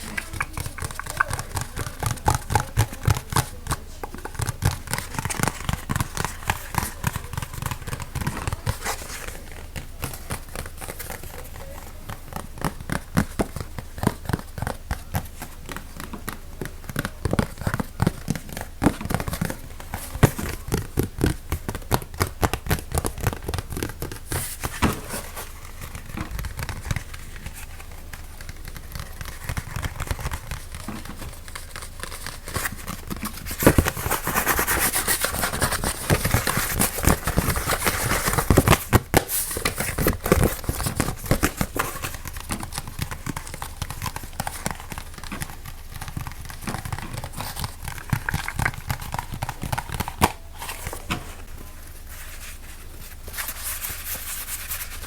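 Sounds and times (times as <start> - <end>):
crinkling and crackling: 0.0 - 55.0
rapid tapping and scratching: 0.0 - 55.0.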